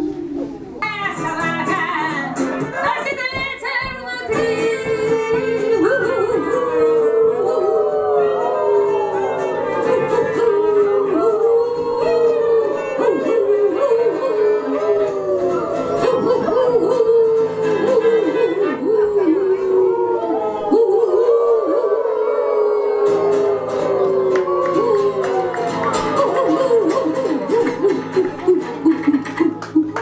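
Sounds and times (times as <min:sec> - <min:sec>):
person singing wordless yodel: 0:00.8 - 0:30.0.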